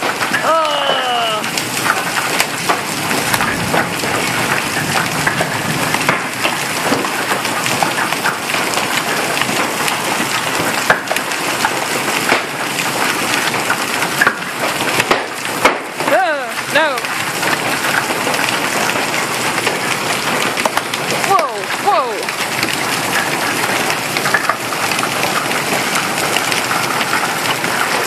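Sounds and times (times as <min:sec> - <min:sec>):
hailstones cracking on hard surfaces: 0:00.0 - 0:28.0.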